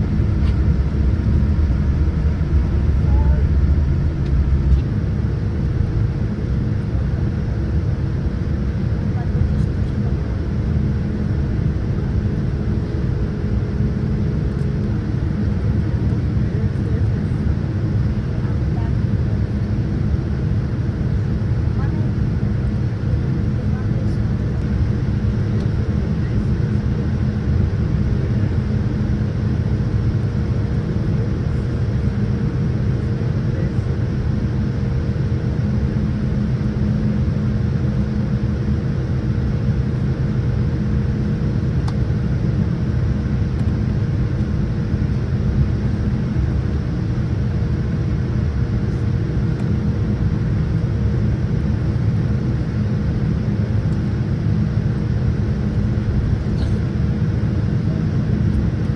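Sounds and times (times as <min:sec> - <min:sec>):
airliner cabin rumble: 0:00.0 - 0:58.9
faint constant hum: 0:00.0 - 0:58.9.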